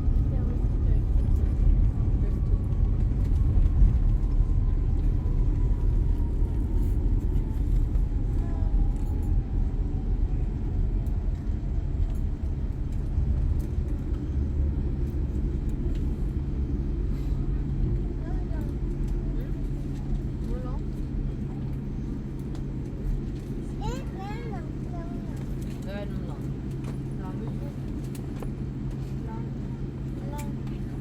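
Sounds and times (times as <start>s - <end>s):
airplane low rumble: 0.0s - 31.0s.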